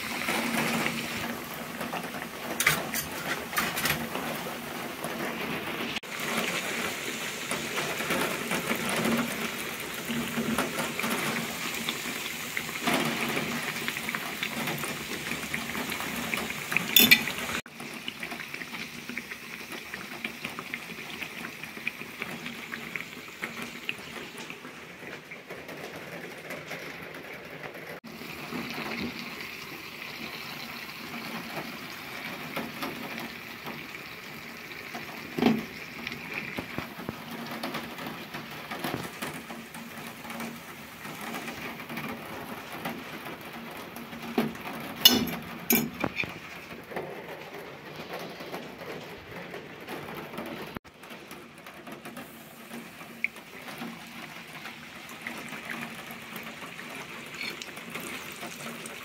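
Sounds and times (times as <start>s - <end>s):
deep-frying sizzle and crackle: 0.0s - 59.0s.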